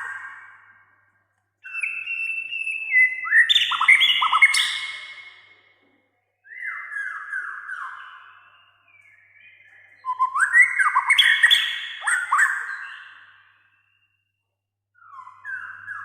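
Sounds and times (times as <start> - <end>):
bird singing whistled notes: 0.0 - 5.5, 6.4 - 14.4, 15.0 - 16.0.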